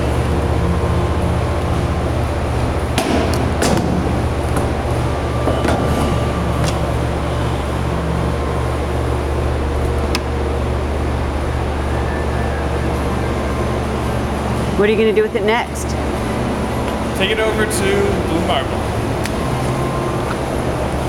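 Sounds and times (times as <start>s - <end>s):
low machinery drone: 0.0s - 21.0s.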